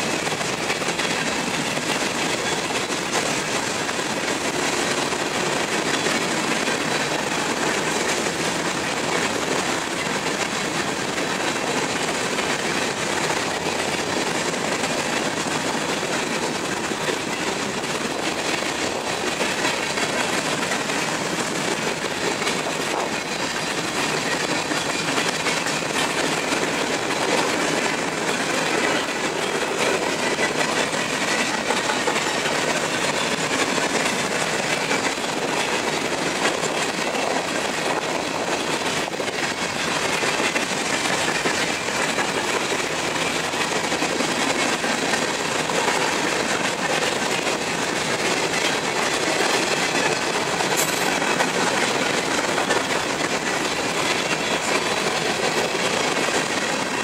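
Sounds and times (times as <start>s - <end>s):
freight train wheels rattling on rails: 0.0s - 57.0s.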